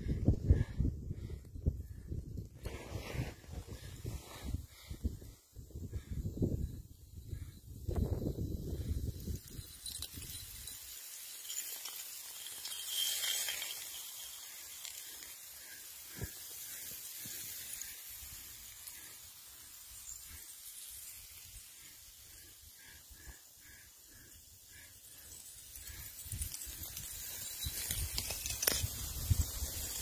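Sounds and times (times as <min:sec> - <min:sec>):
snow sliding with a hiss: 0:02.5 - 0:05.2, 0:05.8 - 0:30.0.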